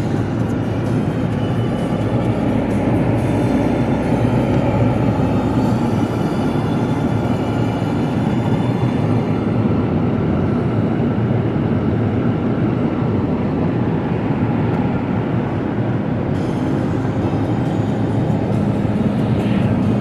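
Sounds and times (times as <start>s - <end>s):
car engine noise: 0.0s - 20.0s
road and tyre rumble: 0.0s - 20.0s.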